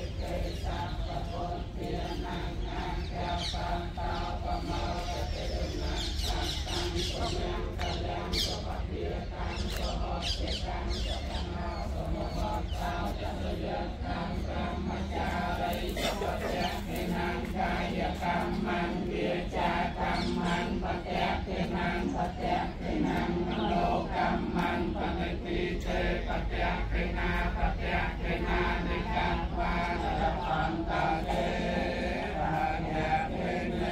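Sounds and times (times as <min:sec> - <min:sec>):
crowd chanting in unison: 0:00.0 - 0:33.9.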